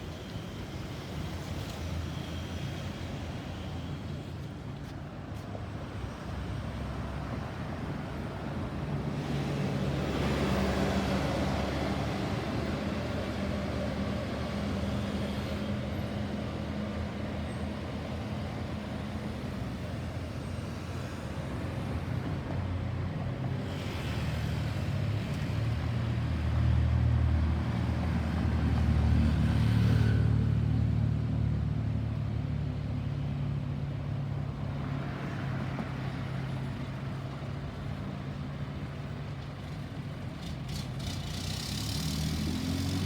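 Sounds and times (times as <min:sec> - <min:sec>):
vehicle engines and tyre noise: 0:00.0 - 0:43.0.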